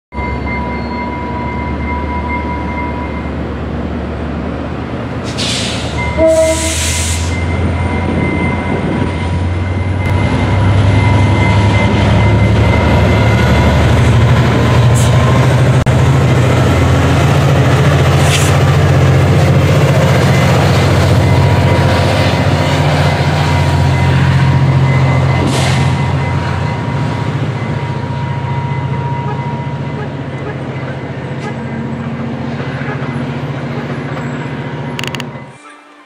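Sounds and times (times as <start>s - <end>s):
diesel locomotive rumbling: 0.1s - 36.0s.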